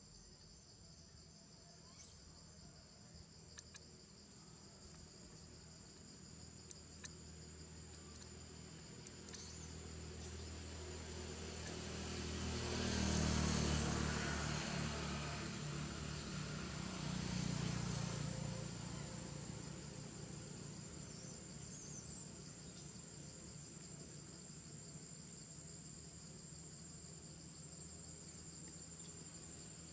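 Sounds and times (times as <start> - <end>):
high insect drone: 0.1 - 29.9.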